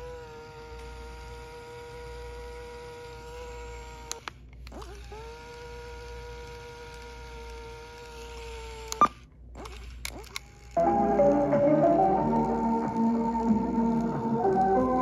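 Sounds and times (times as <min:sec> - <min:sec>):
tape motor whining: 0:00.0 - 0:15.0.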